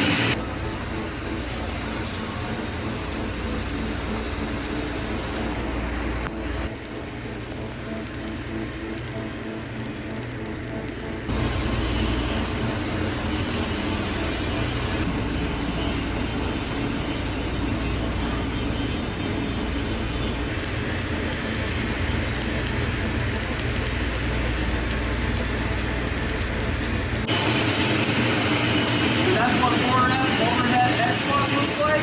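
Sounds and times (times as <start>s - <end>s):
welding arc crackling and hissing: 1.3s - 32.0s.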